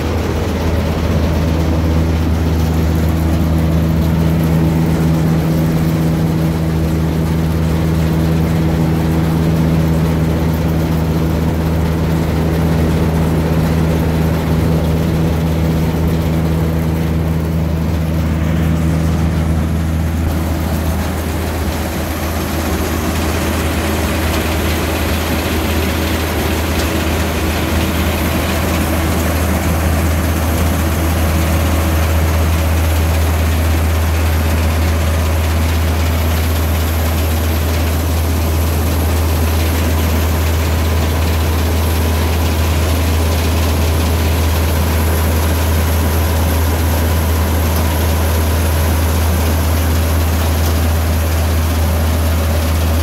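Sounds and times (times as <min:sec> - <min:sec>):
combine harvester engine humming: 0:00.0 - 0:53.0.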